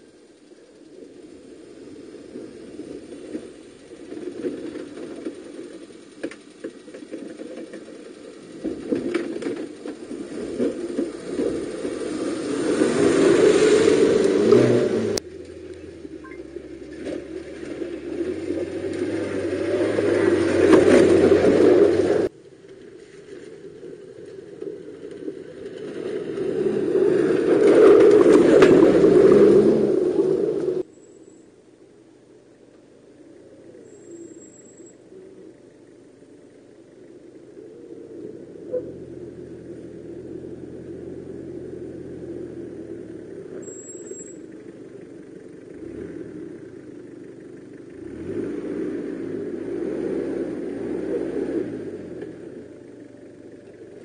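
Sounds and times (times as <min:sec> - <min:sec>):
off-road vehicle engine running: 0:00.0 - 0:31.1, 0:32.2 - 0:54.0.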